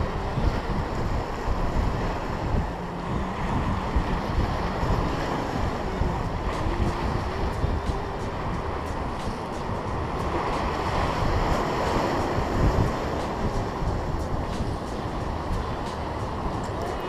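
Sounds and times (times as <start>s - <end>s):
waves breaking against rocks: 0.0s - 17.0s
wind buffeting microphone: 0.0s - 17.0s.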